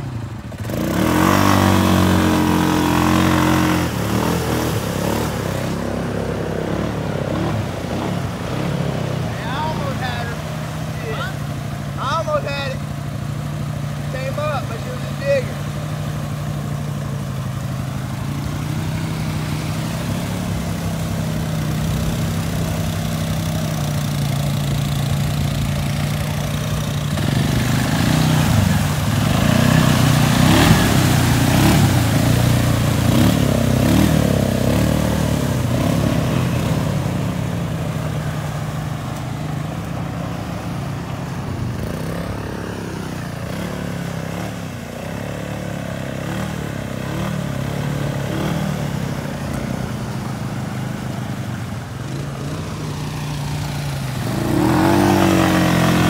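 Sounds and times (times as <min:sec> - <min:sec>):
quad bike engine running: 0:00.0 - 0:56.0
water splashing: 0:00.0 - 0:56.0.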